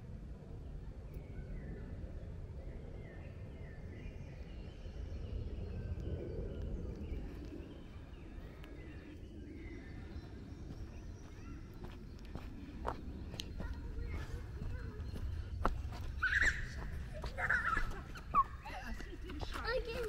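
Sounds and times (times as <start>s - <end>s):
steady low rumble: 0.0s - 20.0s
birds chirping and trilling: 0.6s - 20.0s.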